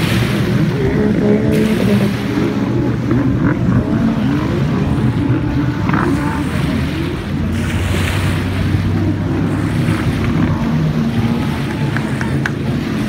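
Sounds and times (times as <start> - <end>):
choppy water: 0.0 - 13.0
jet ski engines racing: 0.0 - 13.0.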